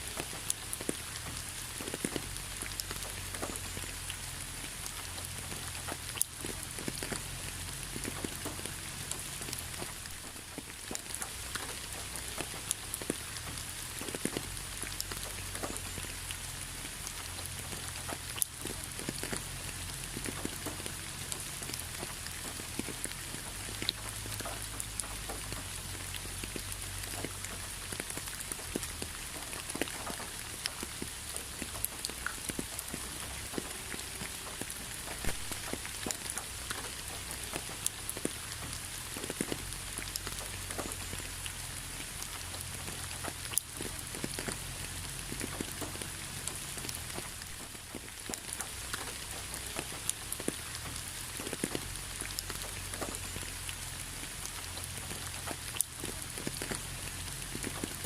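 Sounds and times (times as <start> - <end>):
raindrops pattering on a surface: 0.0 - 58.0
steady rain: 0.0 - 58.0.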